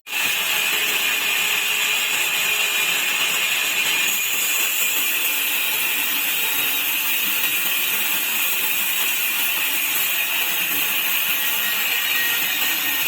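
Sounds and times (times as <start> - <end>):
sawmill saw whining: 0.0 - 13.0.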